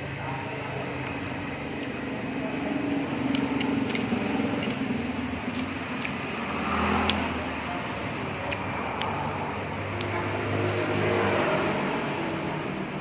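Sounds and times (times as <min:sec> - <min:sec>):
traffic-like rumble: 0:00.0 - 0:13.0.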